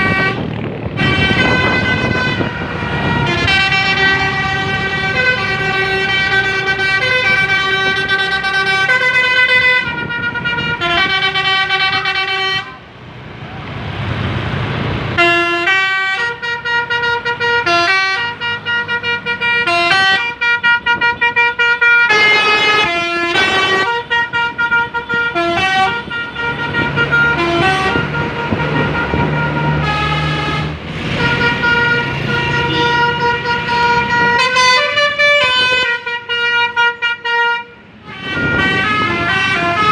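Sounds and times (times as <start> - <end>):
bus musical horn playing a tune: 0.0 - 12.9, 15.2 - 39.9.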